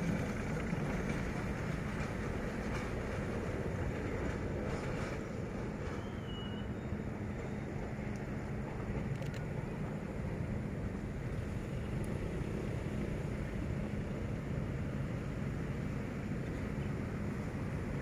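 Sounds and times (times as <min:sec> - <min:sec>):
locomotive engine droning: 0:00.0 - 0:18.0.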